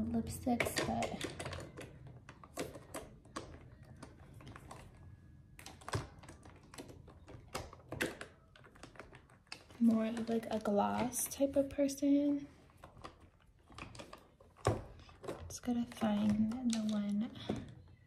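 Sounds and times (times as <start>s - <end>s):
makeup cases clicking and tapping: 0.0s - 18.0s.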